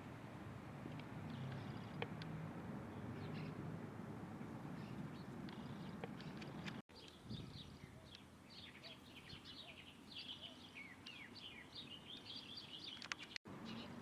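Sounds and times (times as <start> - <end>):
small birds chirping: 0.9 - 14.0.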